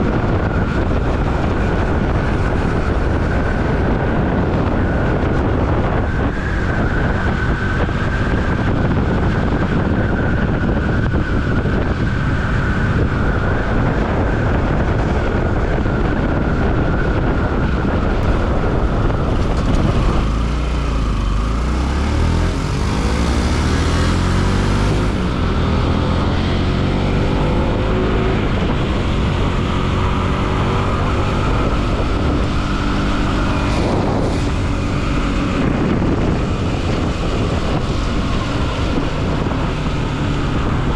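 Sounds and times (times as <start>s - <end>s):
wind on microphone: 0.0s - 40.9s
motorcycle engine running: 7.6s - 40.9s.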